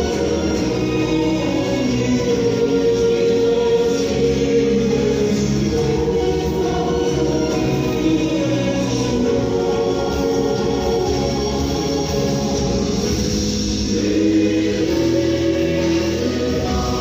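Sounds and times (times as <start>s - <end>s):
choir singing in harmony: 0.0s - 17.0s.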